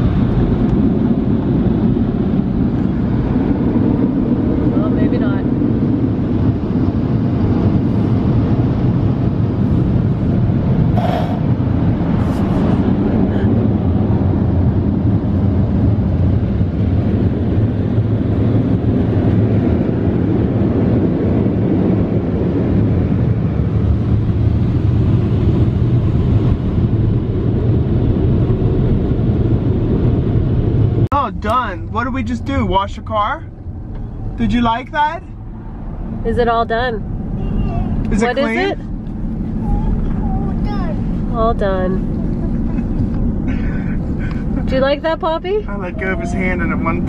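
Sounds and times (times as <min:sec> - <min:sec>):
car wash dryer blowers rushing: 0:00.0 - 0:47.0.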